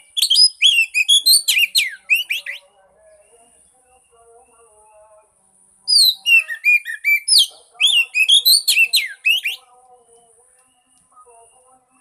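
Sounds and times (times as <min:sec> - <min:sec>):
bird singing whistled notes: 0:00.0 - 0:04.2, 0:05.9 - 0:11.7.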